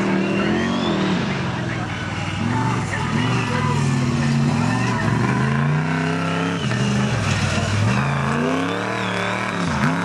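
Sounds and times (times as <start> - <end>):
truck engine revving hard: 0.0 - 10.0.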